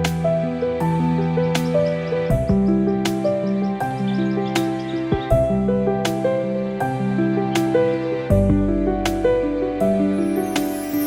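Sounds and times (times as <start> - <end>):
gentle new-age music: 0.0 - 11.0.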